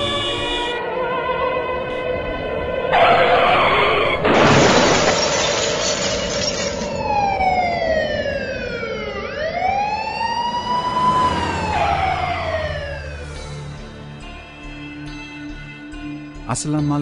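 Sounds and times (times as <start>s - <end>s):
emergency siren wailing: 0.0s - 15.1s.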